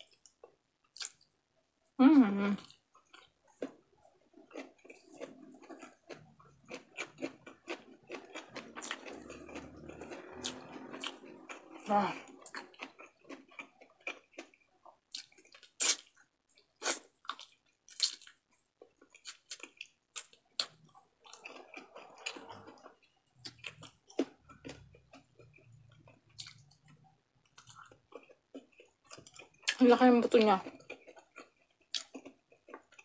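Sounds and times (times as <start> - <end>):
wet chewing: 0.0 - 1.3, 2.6 - 33.0.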